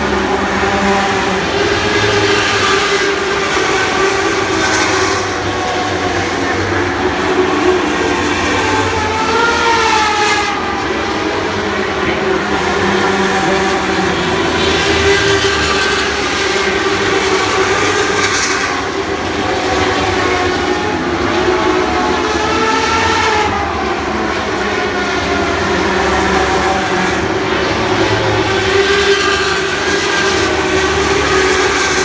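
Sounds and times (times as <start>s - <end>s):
racing car engines at high revs: 0.0s - 32.0s.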